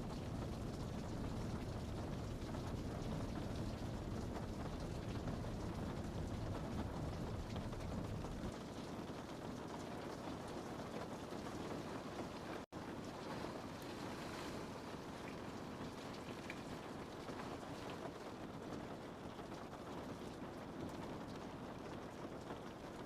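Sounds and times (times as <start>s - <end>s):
rain on a window pane: 0.0s - 23.0s.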